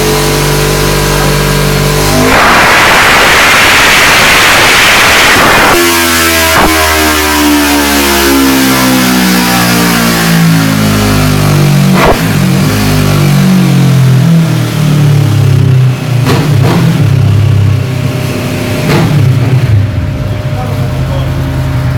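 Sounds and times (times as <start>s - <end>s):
motorcycle engine revs falling: 0.0s - 20.4s.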